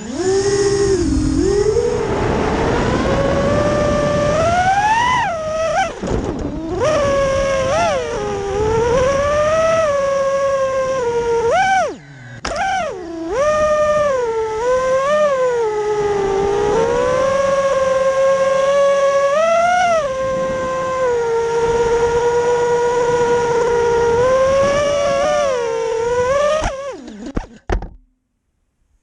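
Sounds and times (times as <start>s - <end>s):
quadcopter motors whining: 0.0s - 27.9s.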